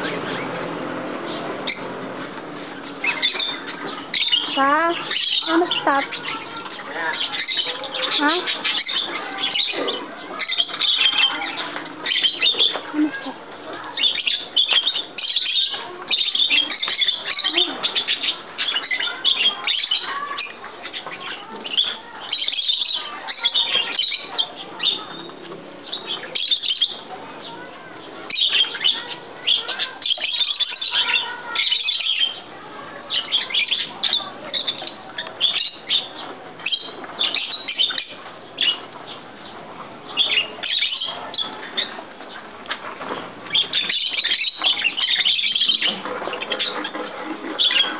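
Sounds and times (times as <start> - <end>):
many birds chirping: 0.0 - 47.9.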